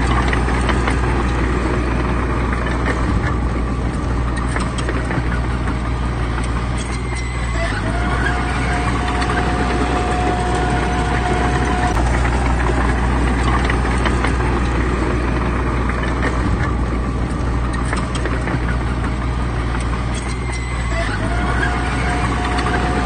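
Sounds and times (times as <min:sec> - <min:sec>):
heavy diesel machinery engine drone: 0:00.0 - 0:23.0
thin steady whine: 0:00.0 - 0:23.0.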